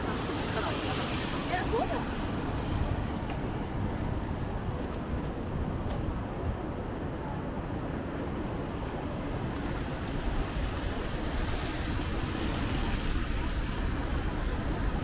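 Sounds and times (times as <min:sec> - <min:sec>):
rain hiss on wet street: 0:00.0 - 0:05.8, 0:07.0 - 0:15.0
low city rumble: 0:00.0 - 0:15.0.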